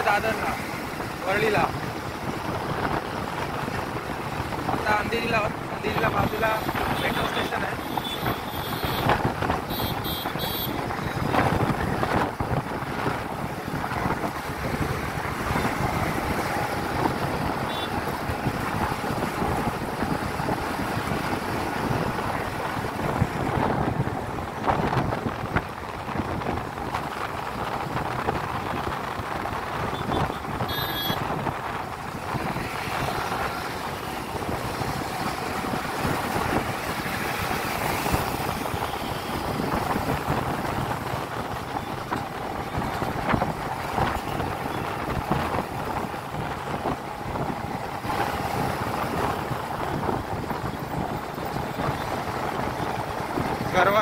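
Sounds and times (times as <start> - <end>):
highway traffic: 0.0 - 54.0
wind buffeting microphone: 0.0 - 54.0.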